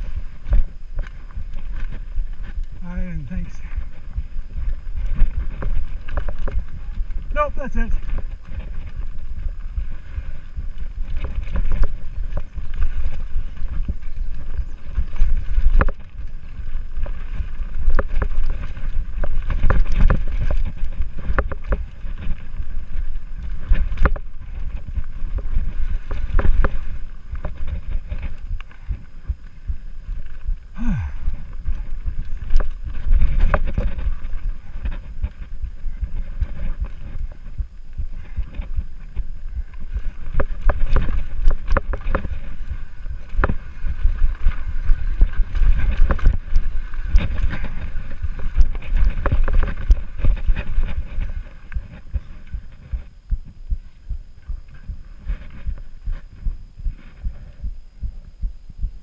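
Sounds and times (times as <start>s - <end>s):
bike knocking and rattling: 0.0s - 57.6s
bike tyres rumbling on dirt trail: 0.0s - 59.0s
wind buffeting microphone: 0.0s - 59.0s.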